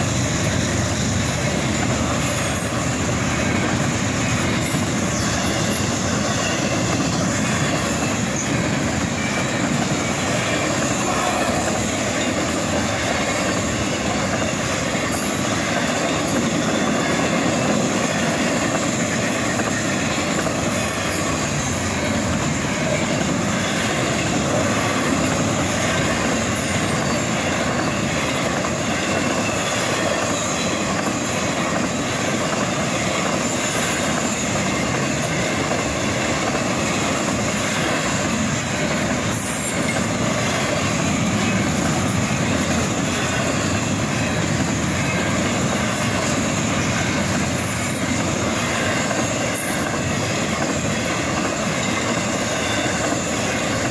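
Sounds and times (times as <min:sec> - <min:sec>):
freight train wheels rumbling on rail: 0:00.0 - 0:53.9.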